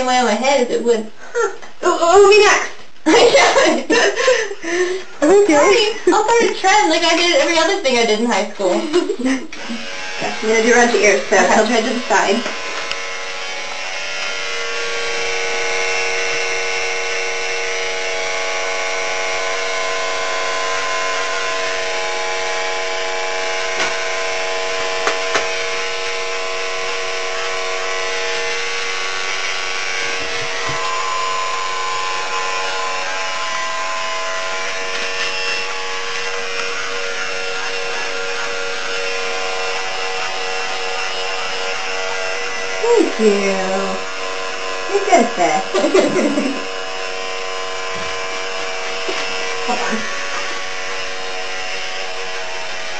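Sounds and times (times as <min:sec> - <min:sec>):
electric hair clippers buzzing: 0:00.0 - 0:52.9.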